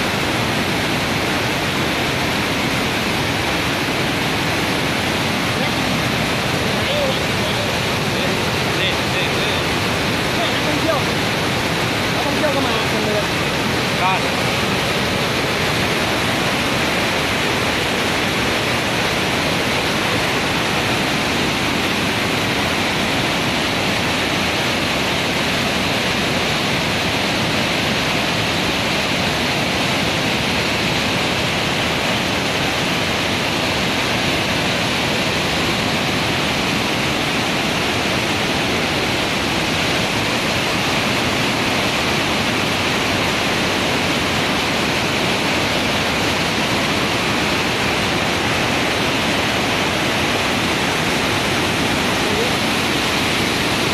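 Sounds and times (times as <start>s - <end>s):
water rushing over waterfall: 0.0s - 53.9s.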